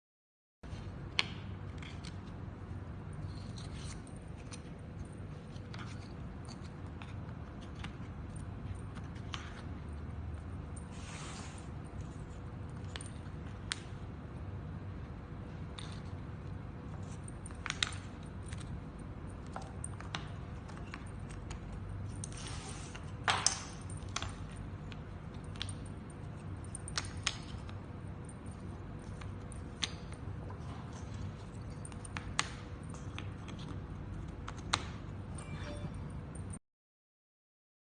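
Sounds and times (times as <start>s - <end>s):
steady low hum: 0.7s - 36.6s.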